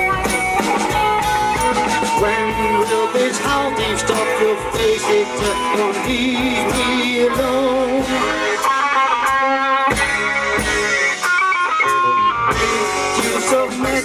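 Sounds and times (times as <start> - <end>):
drum kit: 0.0 - 14.0
electric guitar lead melody: 0.0 - 14.0.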